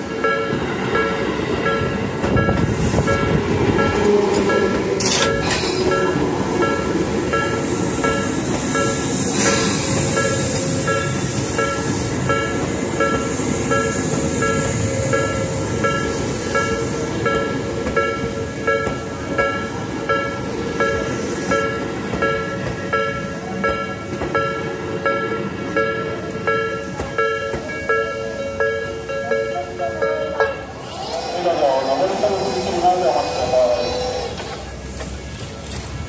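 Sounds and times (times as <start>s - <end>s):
electric train rumbling past: 0.0s - 36.0s
level crossing alarm dinging: 0.2s - 9.1s, 10.0s - 30.7s.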